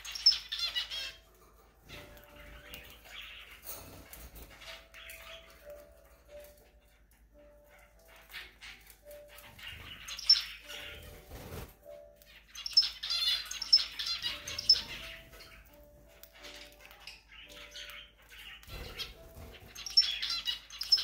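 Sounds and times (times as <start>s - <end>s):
high bird chirps: 0.0s - 21.0s.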